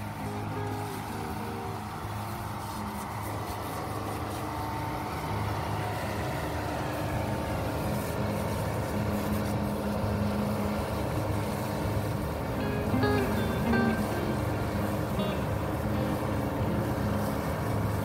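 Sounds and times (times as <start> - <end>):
hose spraying water: 0.0 - 18.0
low mechanical hum: 0.0 - 18.0.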